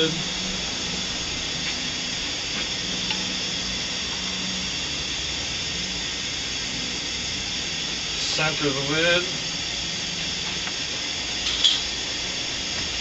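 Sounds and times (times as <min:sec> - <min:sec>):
cooker hissing: 0:00.0 - 0:13.0.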